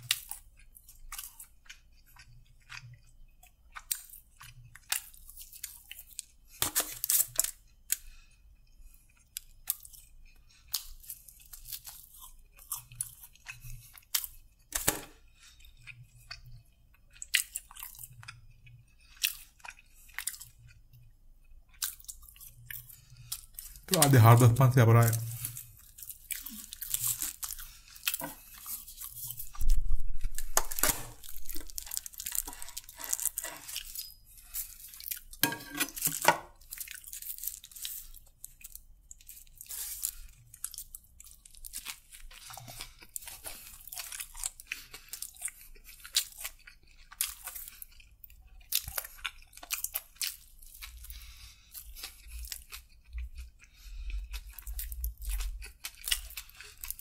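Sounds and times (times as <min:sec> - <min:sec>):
chewing and crunching sandwich: 0:00.0 - 0:57.0.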